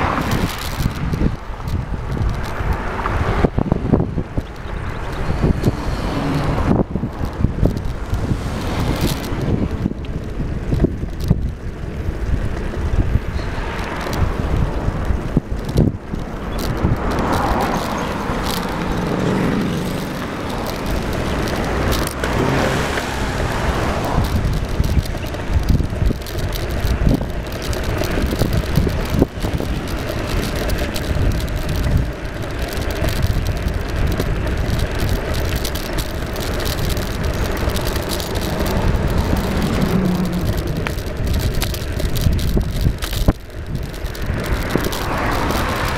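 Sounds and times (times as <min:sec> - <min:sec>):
road noise: 0:00.0 - 0:45.9
wind buffeting microphone: 0:00.0 - 0:45.9.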